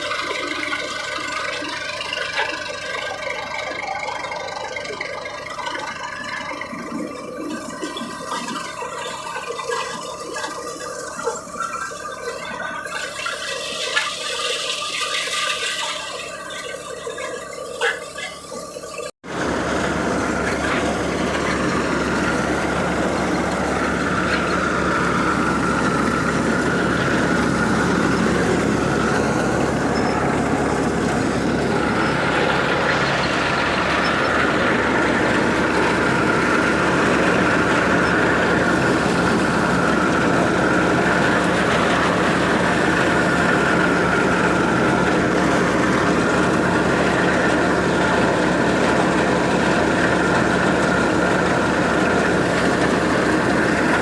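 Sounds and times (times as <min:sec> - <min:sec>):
high mechanical whine: 0:00.0 - 0:54.0
tractor powering a thresher: 0:00.0 - 0:54.0.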